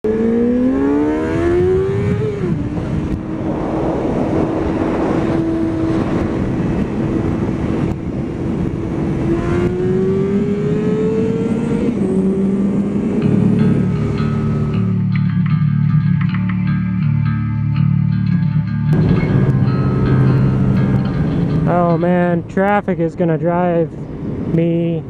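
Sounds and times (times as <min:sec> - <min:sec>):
wind noise: 0:00.0 - 0:15.2, 0:18.9 - 0:25.0
motorcycle engine accelerating: 0:00.0 - 0:16.4, 0:18.9 - 0:22.5.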